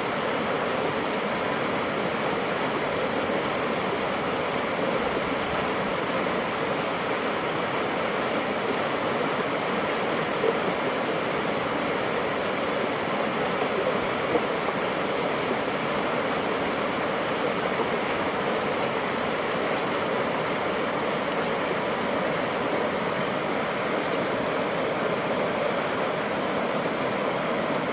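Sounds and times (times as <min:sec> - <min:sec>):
water rushing through culverts: 0:00.0 - 0:27.9.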